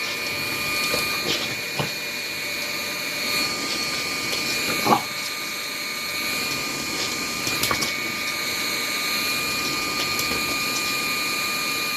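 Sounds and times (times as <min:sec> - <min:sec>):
vacuum cleaner running: 0:00.0 - 0:11.9.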